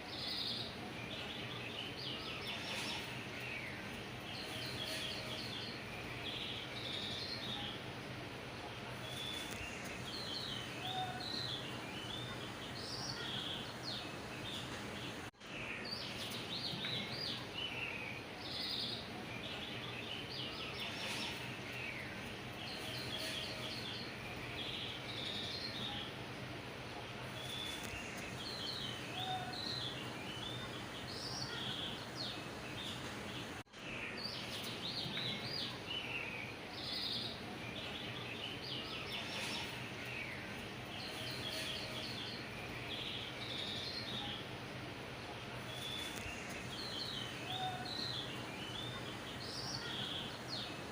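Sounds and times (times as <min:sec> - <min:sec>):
small birds chirping: 0:00.0 - 0:50.9
steady background hiss: 0:00.0 - 0:50.9.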